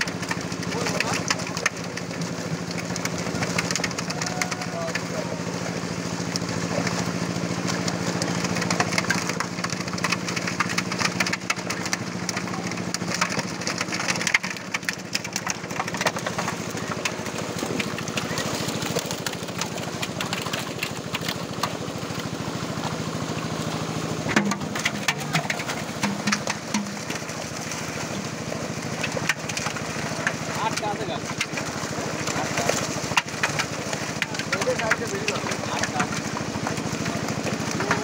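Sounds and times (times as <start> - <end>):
fish thrashing and splashing: 0.0 - 38.0
small engine droning: 0.0 - 38.0.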